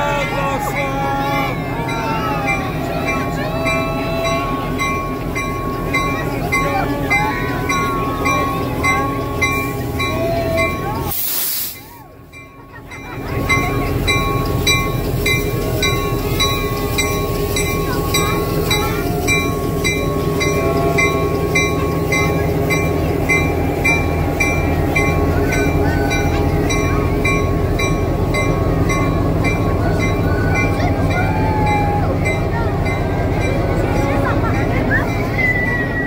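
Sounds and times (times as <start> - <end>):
diesel locomotive engine running: 0.0 - 36.0
locomotive bell ringing: 0.0 - 36.0.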